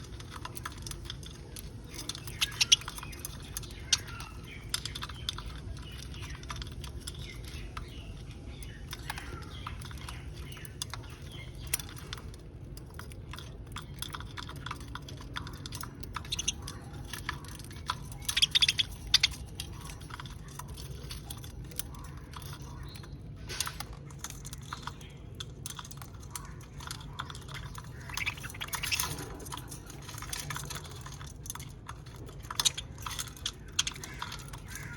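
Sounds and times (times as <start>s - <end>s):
birds cracking seeds: 0.0s - 34.9s
soft bird chirps: 0.0s - 34.9s.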